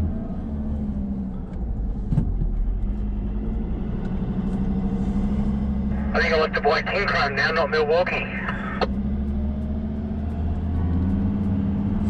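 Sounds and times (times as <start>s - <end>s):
truck engine running: 0.9s - 12.0s.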